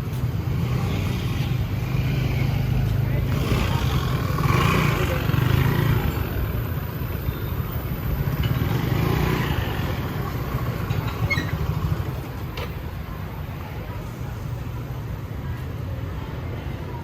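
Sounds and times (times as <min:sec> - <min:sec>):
faint voices: 0:00.0 - 0:17.0
motorbikes passing: 0:00.0 - 0:17.0.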